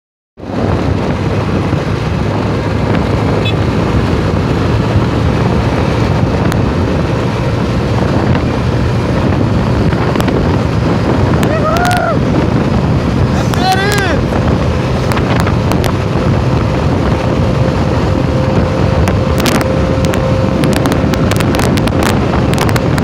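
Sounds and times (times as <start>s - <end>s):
motorcycle engine running hard: 0.4s - 23.0s
wind rush over microphone: 0.4s - 23.0s.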